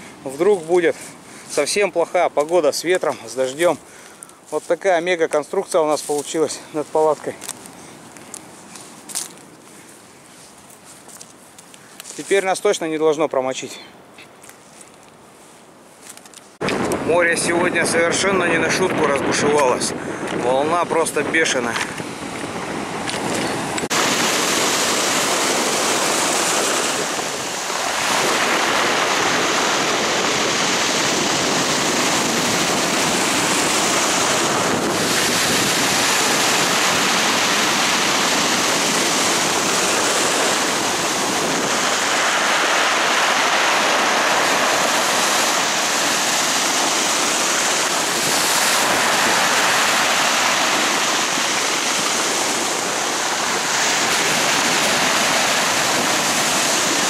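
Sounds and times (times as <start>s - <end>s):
heavy waves breaking ashore: 0.0s - 12.8s, 15.0s - 57.0s.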